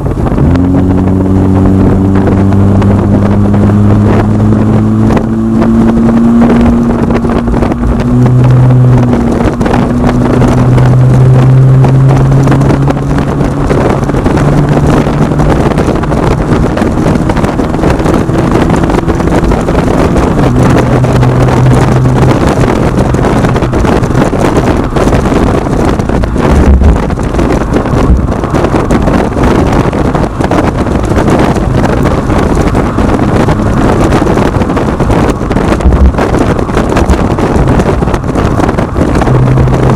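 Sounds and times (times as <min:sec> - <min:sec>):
car exhaust drone: 0:00.0 - 0:39.9
road and wind noise: 0:00.0 - 0:39.9.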